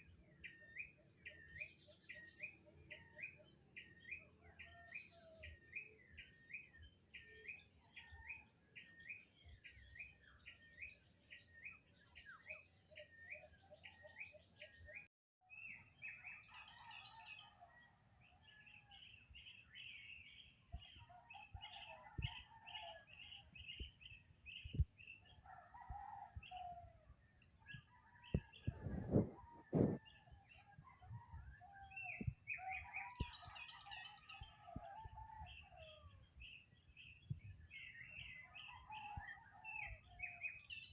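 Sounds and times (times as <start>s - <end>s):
many birds chirping: 0.0s - 40.9s.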